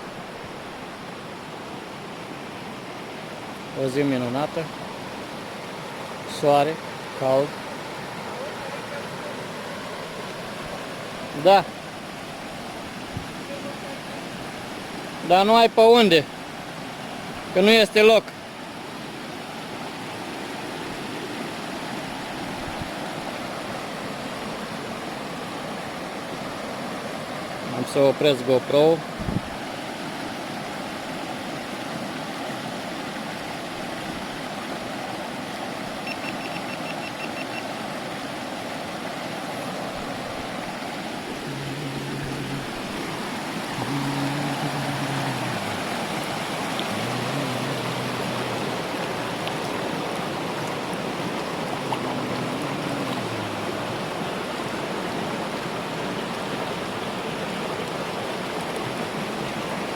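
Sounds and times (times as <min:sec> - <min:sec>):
waterfall and river rushing: 0:00.0 - 0:59.9.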